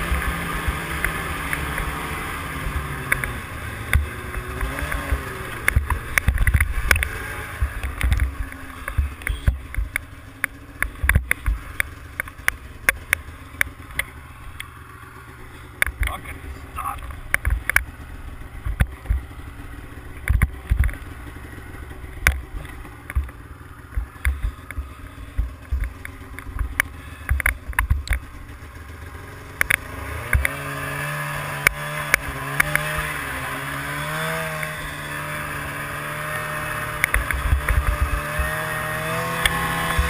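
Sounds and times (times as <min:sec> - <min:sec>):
snowmobile engine: 0:00.0 - 0:40.0.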